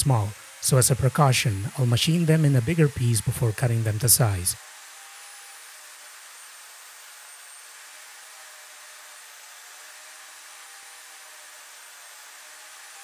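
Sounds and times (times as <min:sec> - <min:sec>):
table saw running: 0:00.0 - 0:13.0.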